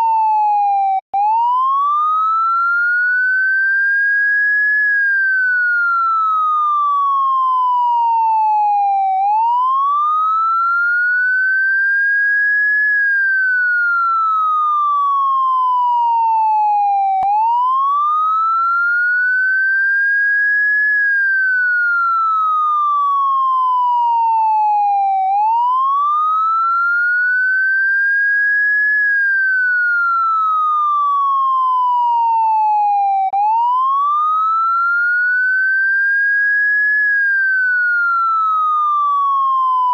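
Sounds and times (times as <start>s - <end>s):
electronic police siren wailing: 0.0s - 39.9s.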